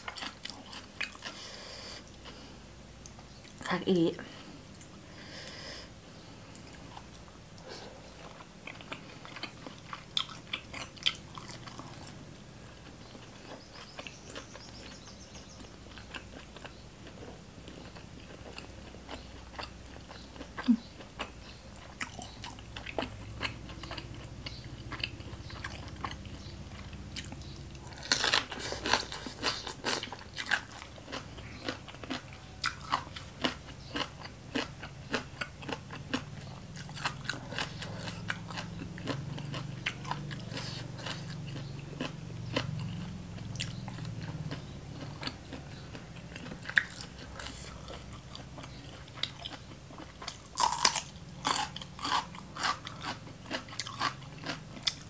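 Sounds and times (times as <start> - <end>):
wet chewing: 0.0 - 2.4, 6.5 - 12.2, 12.8 - 55.0.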